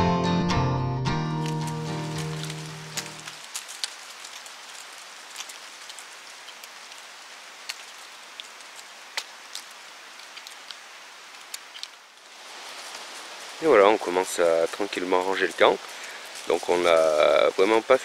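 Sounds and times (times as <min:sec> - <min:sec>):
leaves landing on leaf litter: 0:01.3 - 0:18.0
wind through foliage: 0:01.4 - 0:18.0.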